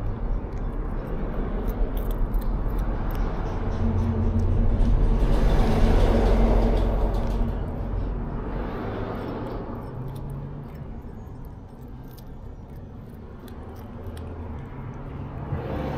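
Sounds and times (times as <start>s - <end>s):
cat crunching dried fish: 0.0s - 15.9s
vehicle passing: 0.0s - 15.9s.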